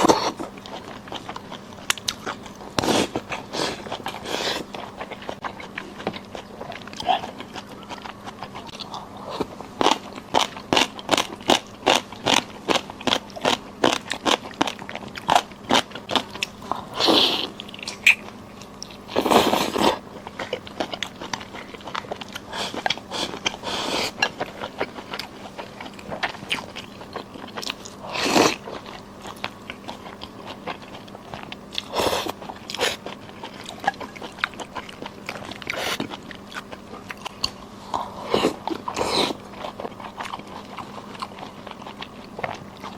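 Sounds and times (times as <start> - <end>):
faint steady hum: 0.0 - 42.9
person chewing crunchy food: 0.0 - 42.9.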